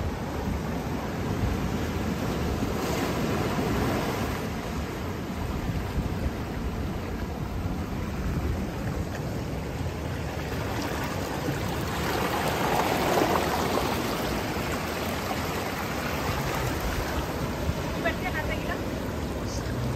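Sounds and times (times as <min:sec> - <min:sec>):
ocean surf washing over sand: 0:00.0 - 0:19.9.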